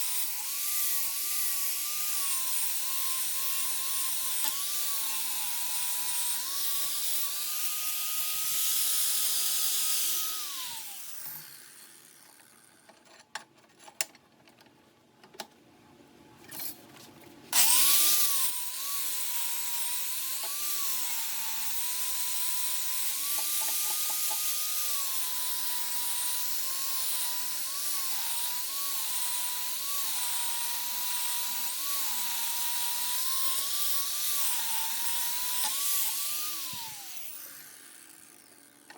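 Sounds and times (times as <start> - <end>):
electric power tool motor running: 0.0 - 12.8, 17.6 - 38.9.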